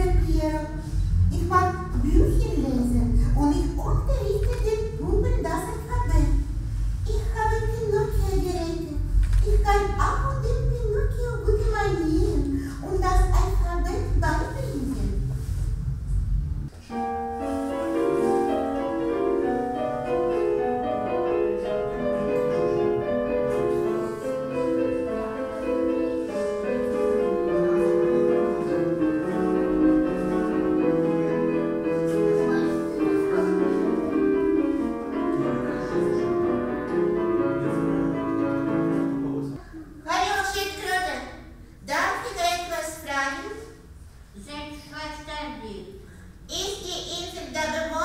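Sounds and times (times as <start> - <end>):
instrumental piano music: 0.0 - 39.6.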